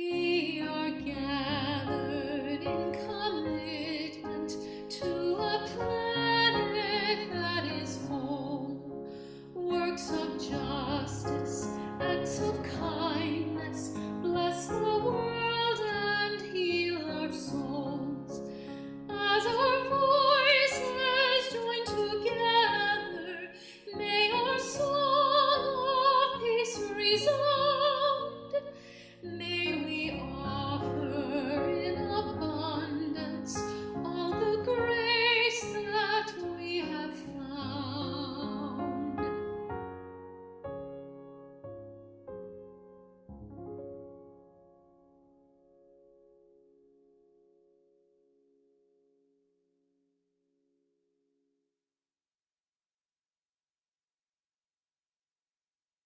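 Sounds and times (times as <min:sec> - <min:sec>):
piano accompaniment: 0:00.0 - 0:48.1.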